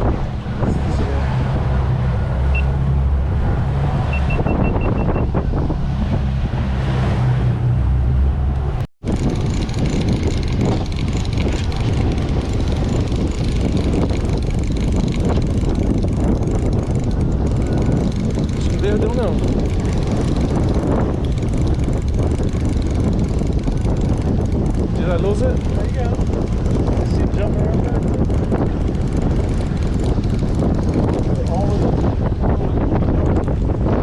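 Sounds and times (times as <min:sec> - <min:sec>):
boat engine running: 0:00.0 - 0:34.0
wind: 0:00.0 - 0:34.0.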